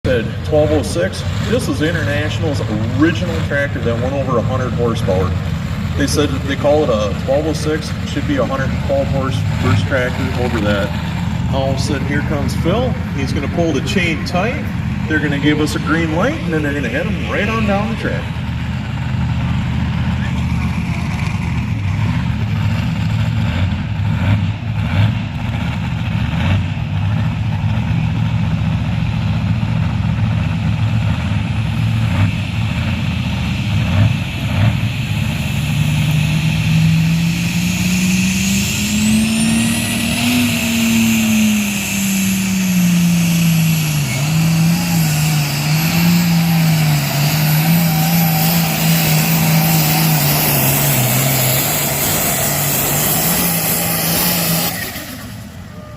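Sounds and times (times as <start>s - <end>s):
diesel tractor engine under load: 0.0s - 55.9s.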